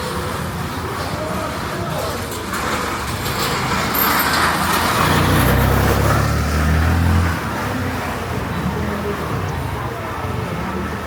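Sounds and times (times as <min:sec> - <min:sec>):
street traffic noise: 0:00.0 - 0:11.0
vehicle engine droning nearby: 0:00.0 - 0:11.0.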